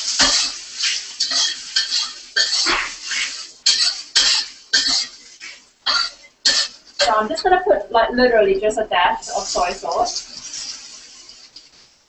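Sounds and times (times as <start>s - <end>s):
spatula scraping noodles in wok: 0.0s - 7.2s, 9.2s - 12.0s.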